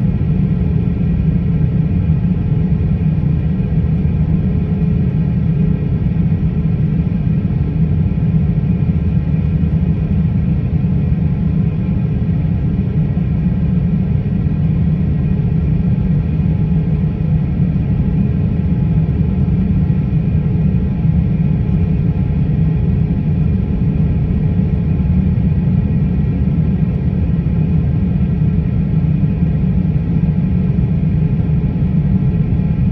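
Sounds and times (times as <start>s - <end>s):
jet engines idling: 0.0s - 32.9s.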